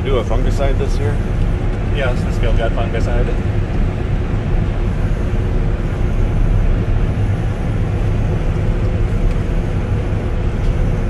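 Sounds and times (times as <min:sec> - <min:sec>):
harvester machine droning: 0:00.0 - 0:11.0.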